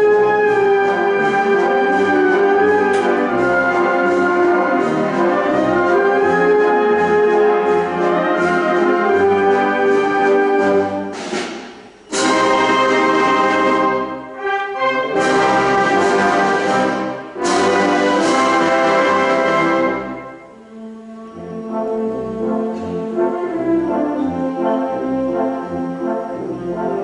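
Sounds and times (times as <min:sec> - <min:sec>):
wind band playing: 0:00.0 - 0:11.4, 0:12.0 - 0:27.0.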